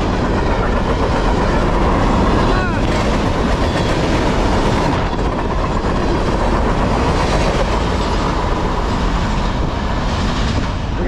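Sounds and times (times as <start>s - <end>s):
freight train wheels clattering: 0.0s - 11.0s.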